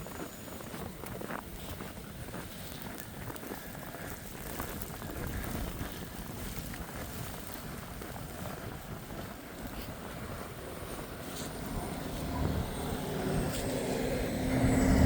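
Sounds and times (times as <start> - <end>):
blizzard wind and snow hiss: 0.0 - 15.0.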